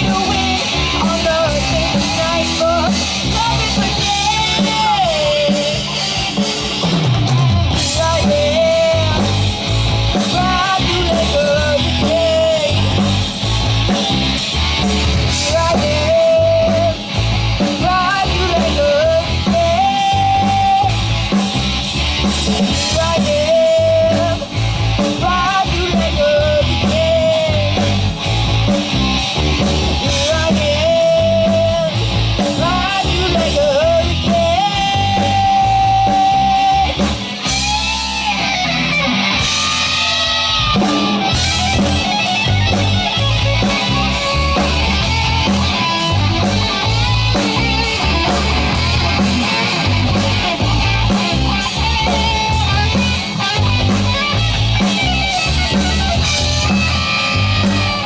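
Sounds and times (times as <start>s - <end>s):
bass guitar: 0.0s - 58.0s
lead electric guitar melody: 0.0s - 58.0s
rock drum beat: 0.0s - 58.0s.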